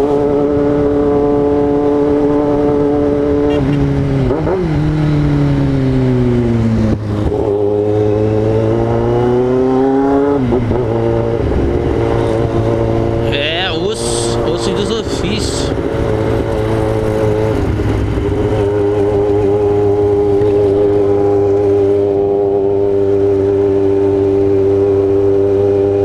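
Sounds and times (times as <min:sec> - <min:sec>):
motorcycle engine running: 0:00.6 - 0:26.0.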